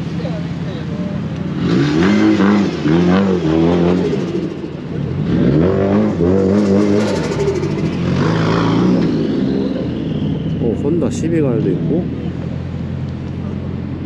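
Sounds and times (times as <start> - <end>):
car engine revving: 0.0 - 14.0
engines idling hum: 0.0 - 14.0.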